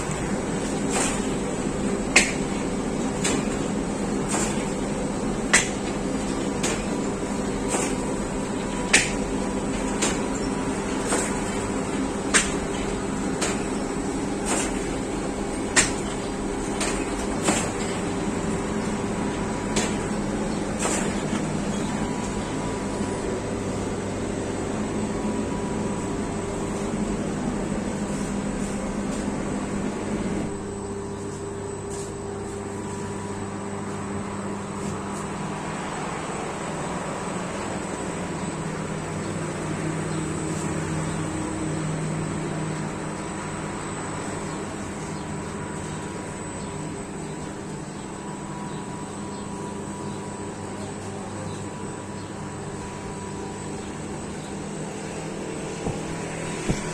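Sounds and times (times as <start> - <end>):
bakery machinery humming: 0.0 - 56.9.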